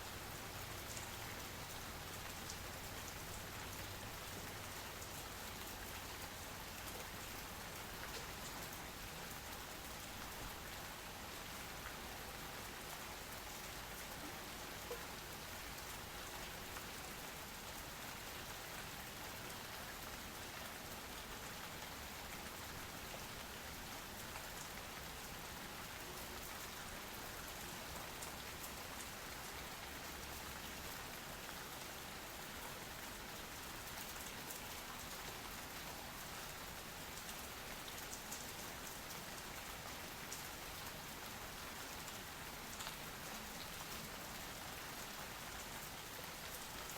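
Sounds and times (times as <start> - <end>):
rain on roofs and stone streets: 0.0 - 46.9.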